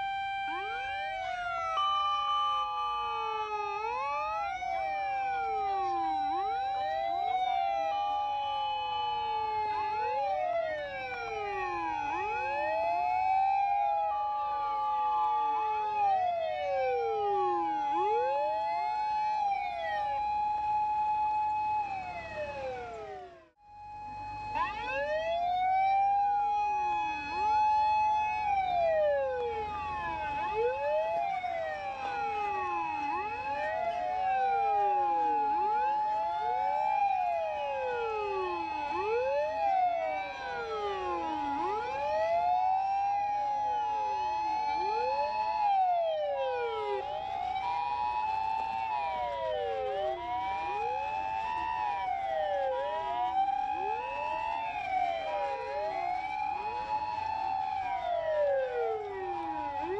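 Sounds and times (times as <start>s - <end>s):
ambulance two-tone siren: 0.0s - 59.9s
fire engine sirens wailing: 0.0s - 59.9s.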